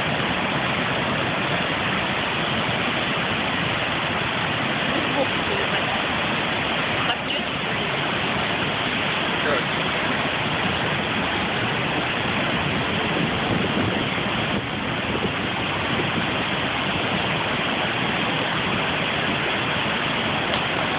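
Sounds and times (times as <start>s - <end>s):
loud rush of falling water: 0.0s - 20.9s.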